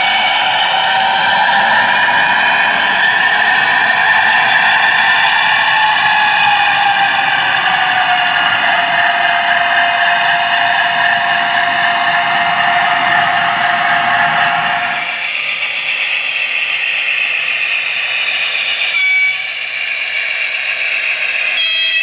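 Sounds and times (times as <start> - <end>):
model train wheels on track: 0.0 - 22.0.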